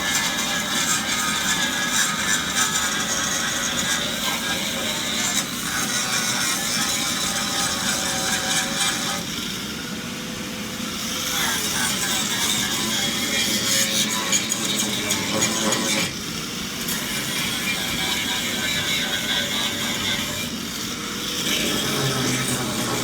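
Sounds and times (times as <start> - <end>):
grinder grinding on steel: 0.0 - 9.7, 10.9 - 23.0.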